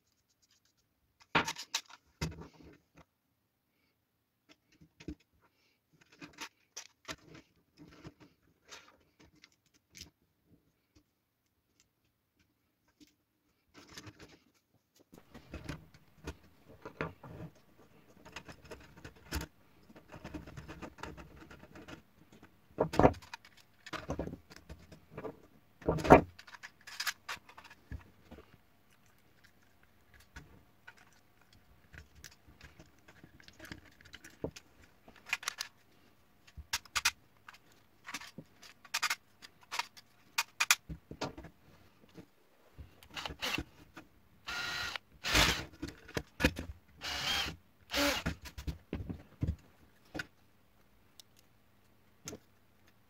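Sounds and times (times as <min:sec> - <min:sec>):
plastic parts clicking and rattling: 0:00.0 - 0:03.1, 0:05.9 - 0:10.2, 0:10.8 - 0:50.4.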